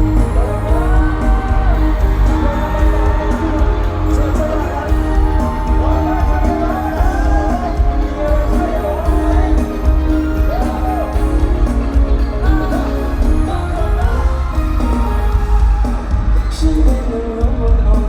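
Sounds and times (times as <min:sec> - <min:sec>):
bass-heavy backing track: 0:00.0 - 0:18.0
person singing pop song: 0:00.0 - 0:18.0.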